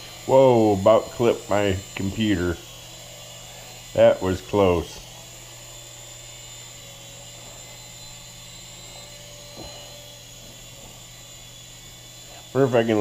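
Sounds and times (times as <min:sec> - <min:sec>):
toy helicopter whining: 0:00.0 - 0:13.0.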